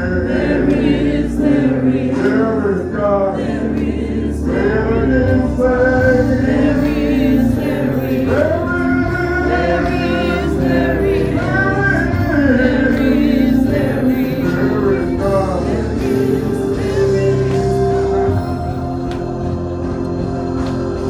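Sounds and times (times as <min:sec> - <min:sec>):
choir singing a gospel hymn: 0:00.0 - 0:21.0
instrumental accompaniment: 0:00.0 - 0:21.0.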